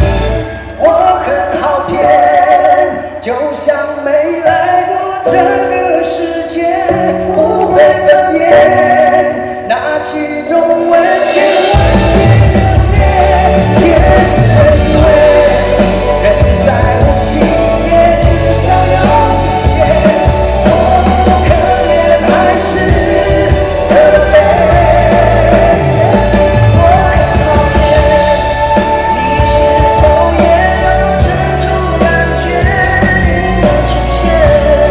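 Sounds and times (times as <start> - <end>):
bass: 0.0 - 34.9
drums: 0.0 - 34.9
man singing long notes: 0.7 - 34.9.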